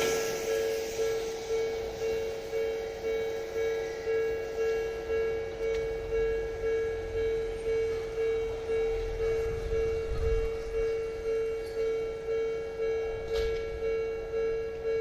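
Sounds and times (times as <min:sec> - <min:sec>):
low rumble: 0:00.0 - 0:14.4
level crossing bell dinging: 0:00.0 - 0:15.0.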